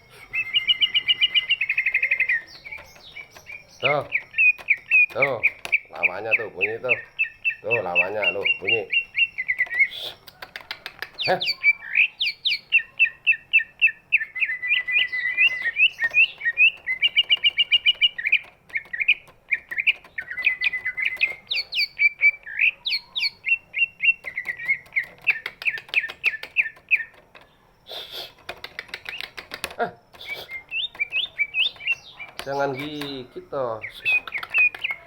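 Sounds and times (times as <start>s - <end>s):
bird singing chirps and whistles: 0.0s - 10.4s, 11.2s - 27.2s, 30.2s - 35.0s.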